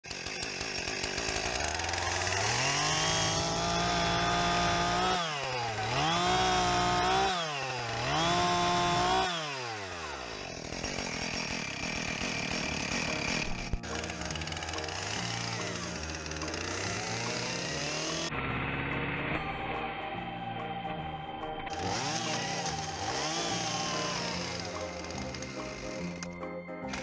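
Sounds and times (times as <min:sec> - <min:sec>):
chainsaw idling: 0:00.0 - 0:19.7, 0:21.6 - 0:27.0
chainsaw revving and cutting wood: 0:00.0 - 0:27.0.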